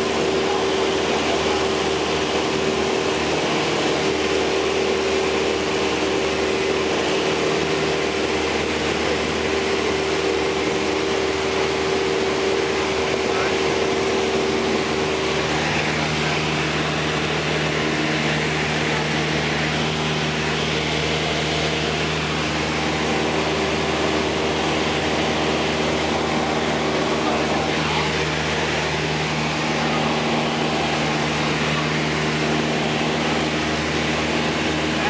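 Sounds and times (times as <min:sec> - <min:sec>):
light aircraft engine drone: 0:00.0 - 0:35.0.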